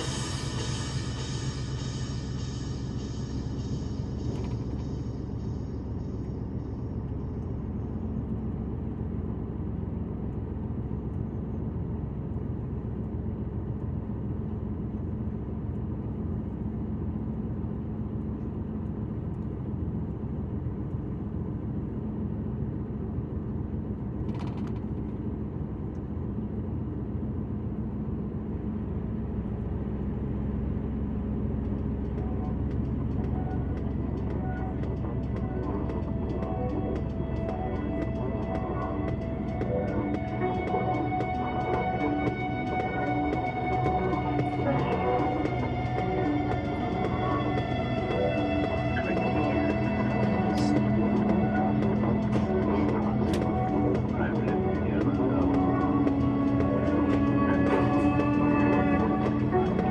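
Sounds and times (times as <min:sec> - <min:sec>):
held hum: 0:00.0 - 0:19.9, 0:30.3 - 0:59.9
truck engine and road rumble: 0:00.0 - 0:59.9.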